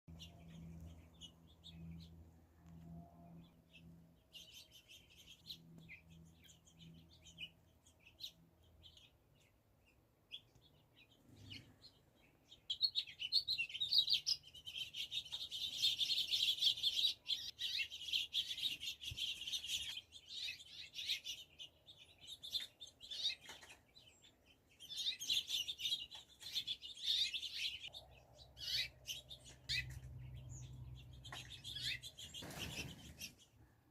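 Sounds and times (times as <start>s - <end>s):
birds chirping and chattering: 0.1s - 33.9s.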